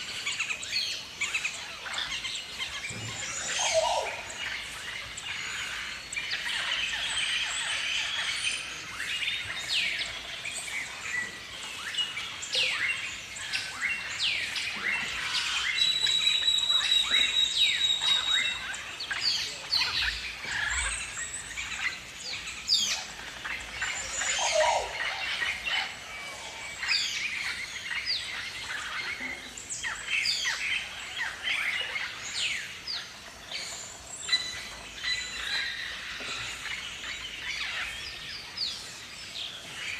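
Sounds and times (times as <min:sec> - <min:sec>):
cockatoos calling: 0:00.0 - 0:39.9.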